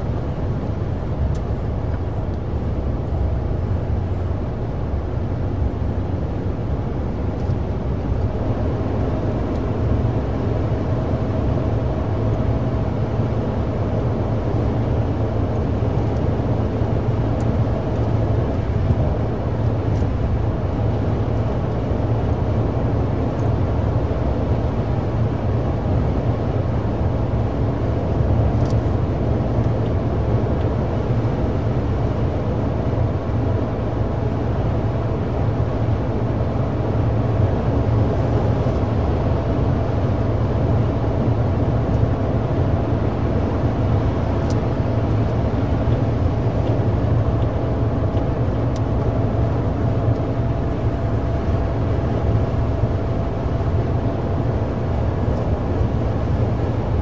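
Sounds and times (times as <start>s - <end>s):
faint steady whine: 0.0s - 57.0s
moving vehicle rumbling: 0.0s - 57.0s.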